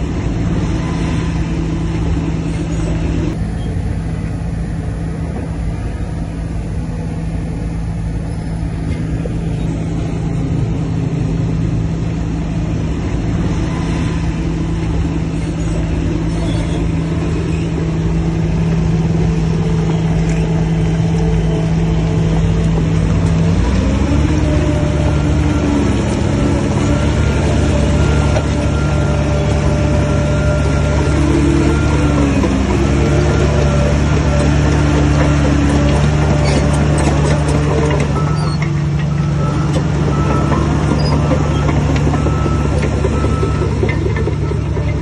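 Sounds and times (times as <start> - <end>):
bulldozer diesel engine revving: 0.0 - 45.0.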